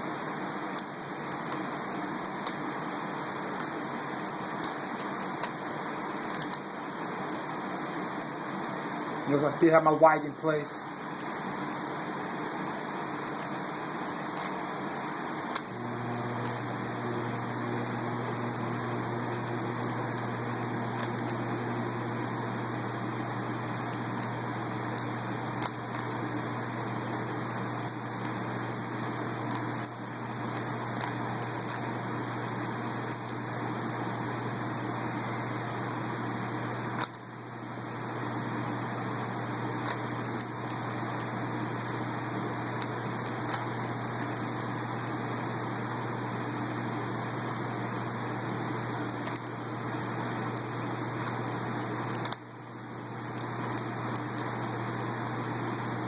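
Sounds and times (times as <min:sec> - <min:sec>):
fan noise: 0:00.0 - 0:56.0
low electrical hum: 0:00.0 - 0:56.0.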